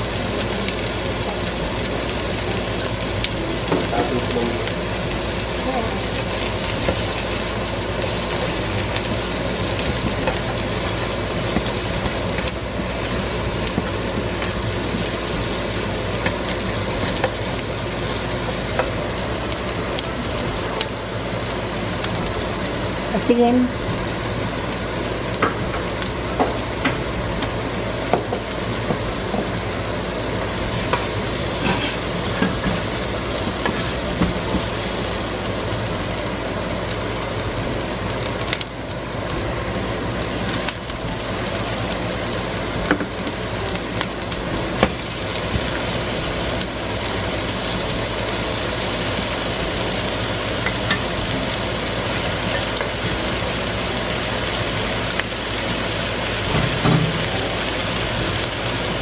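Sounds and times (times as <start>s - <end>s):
onion sizzling in hot oil: 0.0s - 59.0s.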